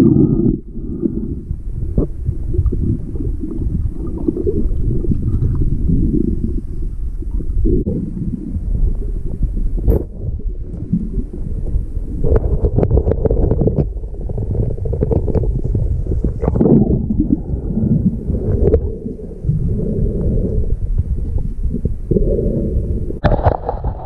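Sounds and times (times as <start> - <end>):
underwater rumbling and gurgling: 0.0 - 24.0.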